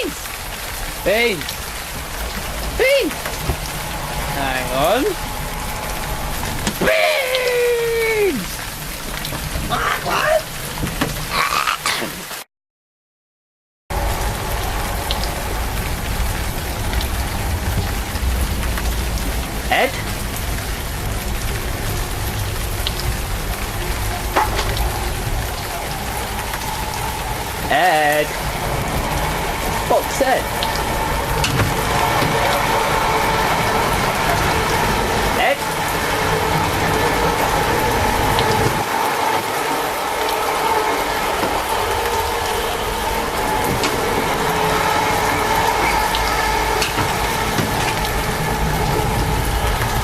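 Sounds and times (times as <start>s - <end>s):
train carriage hum and rattling: 0.0s - 11.3s, 13.9s - 50.0s
steady rain falling: 0.0s - 12.5s, 13.9s - 50.0s.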